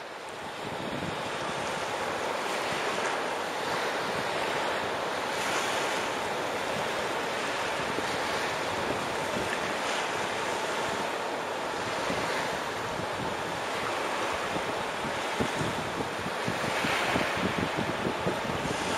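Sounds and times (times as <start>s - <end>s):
waves washing onto sandy beach: 0.0s - 18.9s
wind rumbling on microphone: 0.0s - 18.9s.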